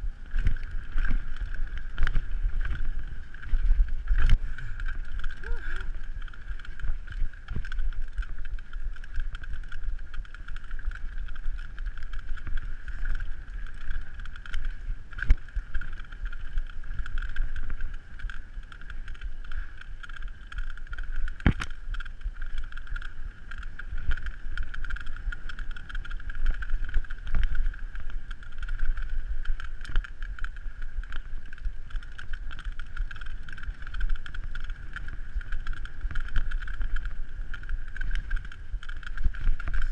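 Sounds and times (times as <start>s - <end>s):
bike rattling over bumps: 0.0s - 39.9s
wind noise on microphone: 0.0s - 39.9s.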